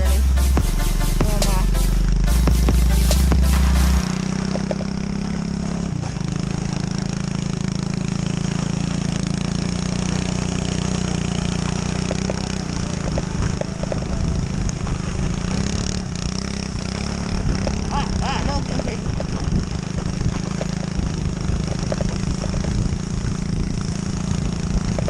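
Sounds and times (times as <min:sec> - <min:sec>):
small motorbike engine running: 0:00.0 - 0:25.0.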